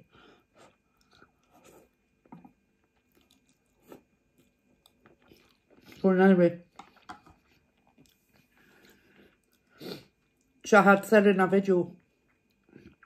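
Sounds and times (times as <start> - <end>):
person chewing noodles: 0.1 - 6.1, 6.7 - 10.6, 12.0 - 13.0.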